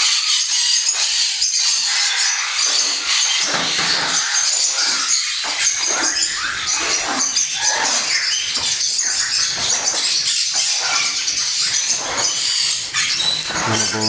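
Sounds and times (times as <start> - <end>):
parrots chattering: 1.8 - 14.0.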